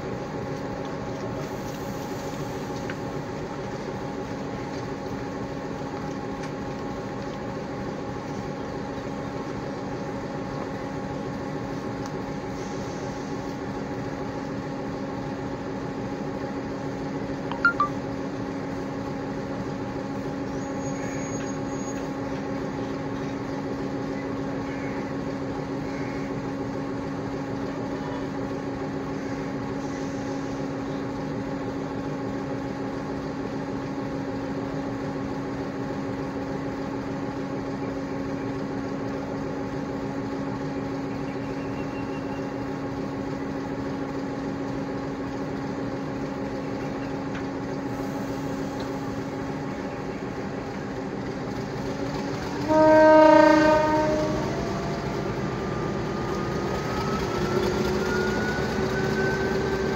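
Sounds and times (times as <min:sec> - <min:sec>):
diesel locomotive idling: 0:00.0 - 0:59.9.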